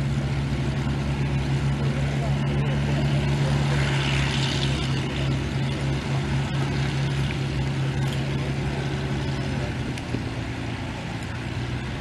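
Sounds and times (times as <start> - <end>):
piston aircraft engines idling: 0.0 - 12.0.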